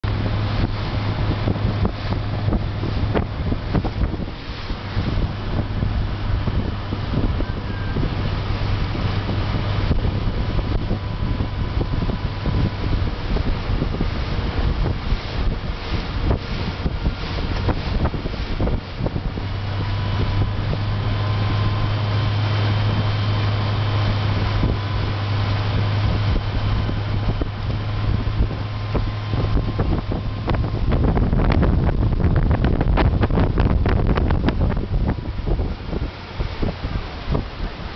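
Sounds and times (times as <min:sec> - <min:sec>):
motorboat engine humming: 0:00.0 - 0:37.9
wind buffeting microphone: 0:00.0 - 0:37.9.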